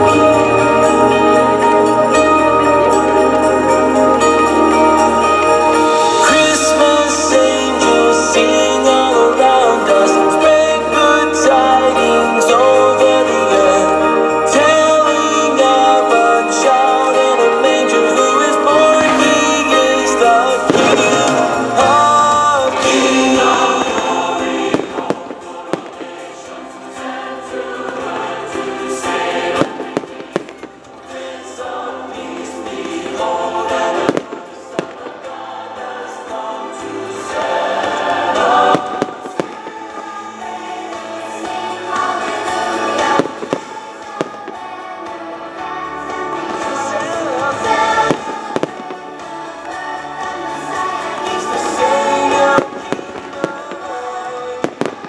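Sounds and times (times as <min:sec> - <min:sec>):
choral music with singing: 0:00.0 - 0:55.0
fireworks bangs and crackles: 0:00.0 - 0:55.0.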